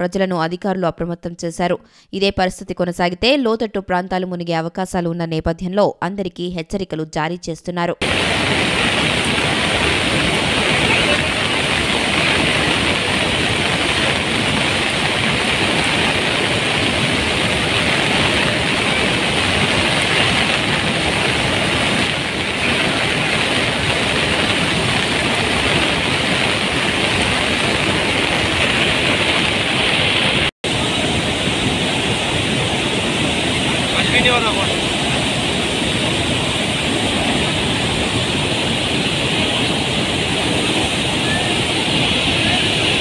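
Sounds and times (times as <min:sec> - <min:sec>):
water roaring through spillway: 0:08.0 - 0:43.0.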